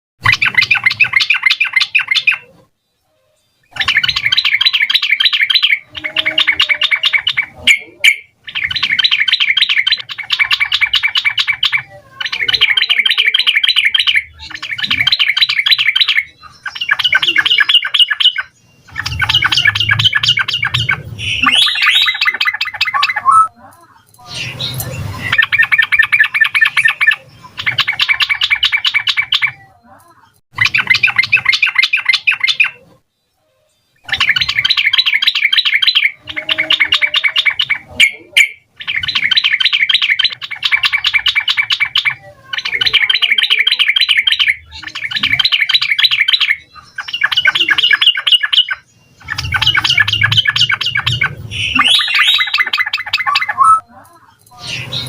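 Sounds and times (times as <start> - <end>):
bird singing chattering notes: 0.2 - 2.6, 3.7 - 33.0, 34.0 - 55.0.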